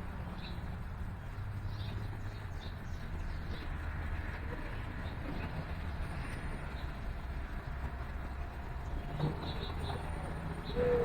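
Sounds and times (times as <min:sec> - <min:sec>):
distant city traffic rumble: 0:00.0 - 0:11.0.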